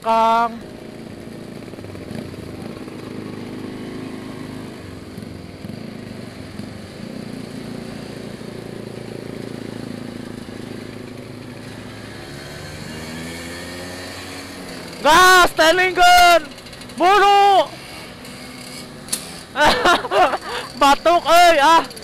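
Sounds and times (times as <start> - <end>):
scooter engine running: 0.0 - 22.0
wind and road noise: 0.0 - 22.0.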